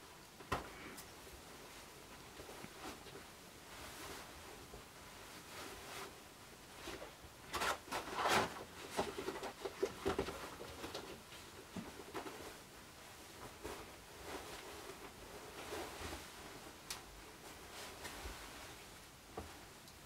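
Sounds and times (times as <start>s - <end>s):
costume rustling and soft knocks: 0.3s - 20.0s.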